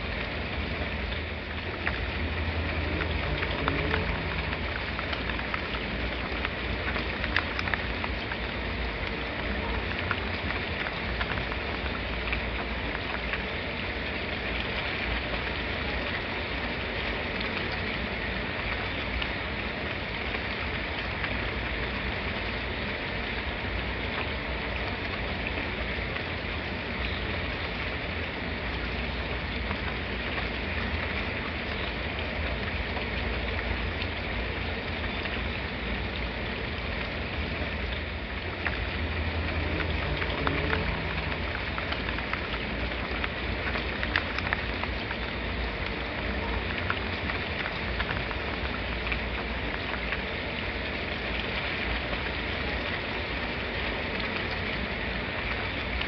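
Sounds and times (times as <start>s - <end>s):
low steady rumble: 0.0s - 56.0s
raindrops ticking: 0.0s - 56.0s
steady rain hissing: 0.0s - 56.0s.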